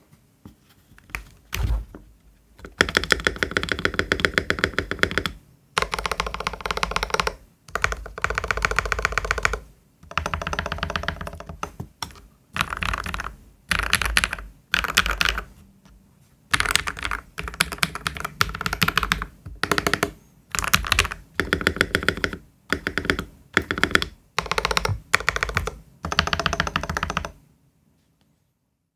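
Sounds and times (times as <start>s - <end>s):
mechanical keyboard typing: 2.6s - 15.5s, 16.5s - 27.4s.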